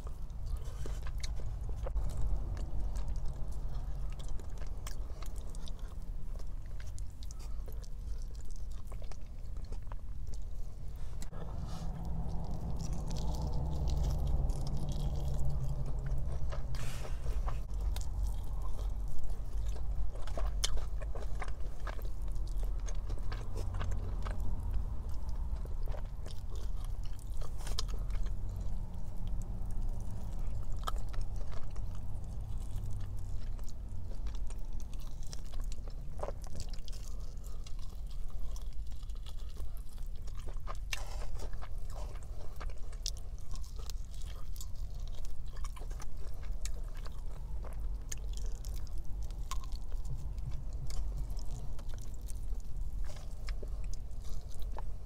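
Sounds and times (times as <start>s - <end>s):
chewing with crisp crunches: 0.0s - 55.0s.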